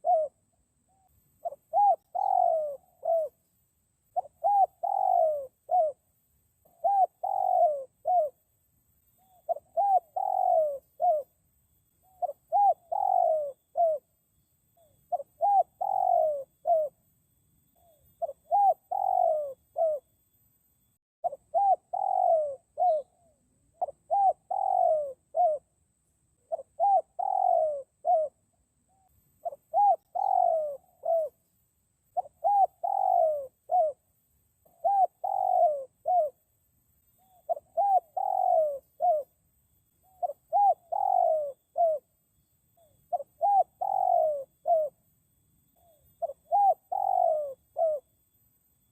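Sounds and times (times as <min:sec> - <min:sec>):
dove cooing: 0:00.0 - 0:08.5, 0:09.1 - 0:11.4, 0:12.0 - 0:17.1, 0:17.7 - 0:20.1, 0:21.2 - 0:25.8, 0:26.4 - 0:31.5, 0:32.1 - 0:36.5, 0:37.2 - 0:39.4, 0:40.0 - 0:42.2, 0:42.8 - 0:45.1, 0:45.7 - 0:48.2.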